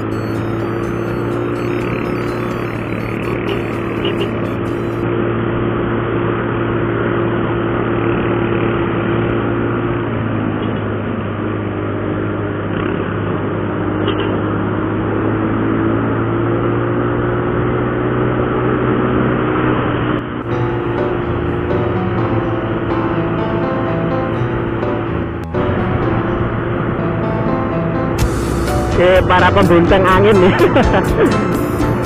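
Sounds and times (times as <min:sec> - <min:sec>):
motorcycle engine cruising: 0:00.0 - 0:32.0
road and wind noise: 0:00.0 - 0:32.0.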